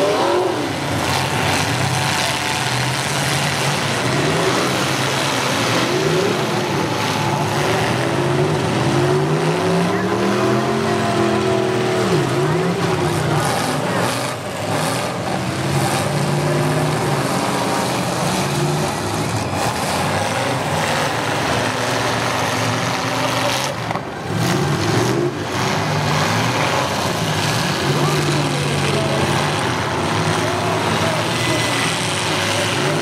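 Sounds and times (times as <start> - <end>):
car engines revving: 0.0 - 33.0
steady background noise: 0.0 - 33.0.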